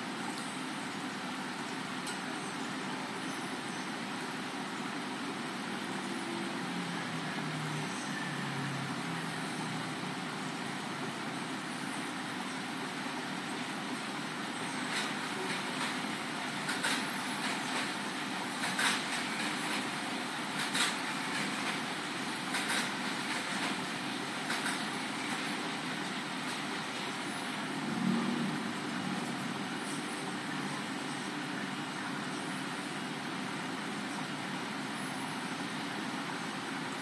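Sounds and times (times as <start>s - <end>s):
machinery hum and hiss: 0.0s - 37.0s.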